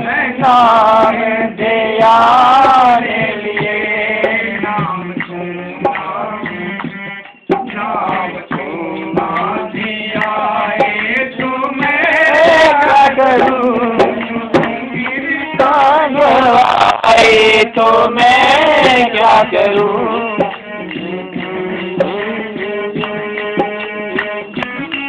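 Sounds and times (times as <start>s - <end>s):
harmonium: 0.0s - 25.0s
man singing devotional song: 0.0s - 25.0s.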